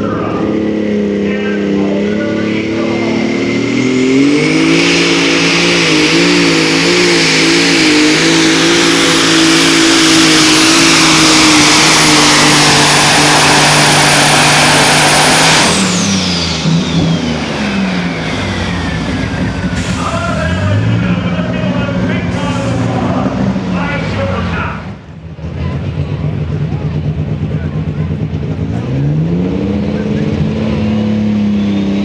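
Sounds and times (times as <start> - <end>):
vehicle engine at full power: 0.0 - 32.0.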